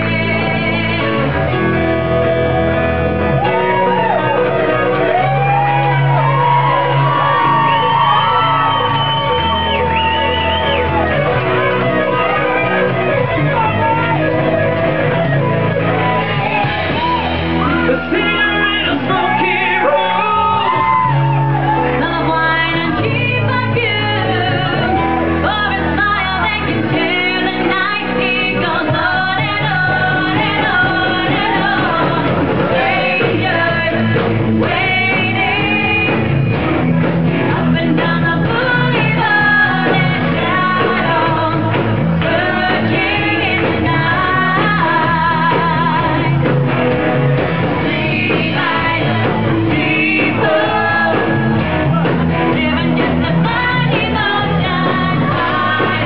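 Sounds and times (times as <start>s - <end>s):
lead vocal singing: 0.0s - 1.7s, 3.6s - 36.6s, 37.2s - 56.0s
electric guitar: 0.0s - 56.0s
low bass notes: 0.0s - 56.0s.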